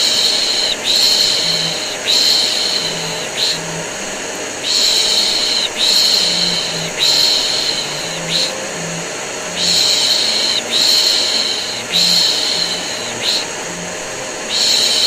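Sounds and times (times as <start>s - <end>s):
hissing shush: 0.0s - 15.0s
vacuum cleaner running: 0.0s - 15.0s.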